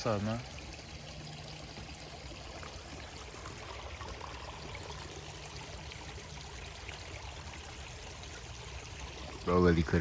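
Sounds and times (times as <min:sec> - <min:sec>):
stream water flowing: 0:00.0 - 0:10.0.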